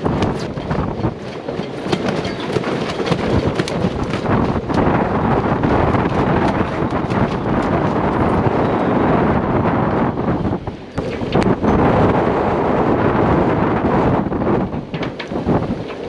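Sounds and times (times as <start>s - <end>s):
sail flogging and cracking: 0.0s - 16.0s
wind buffeting microphone: 0.0s - 16.0s.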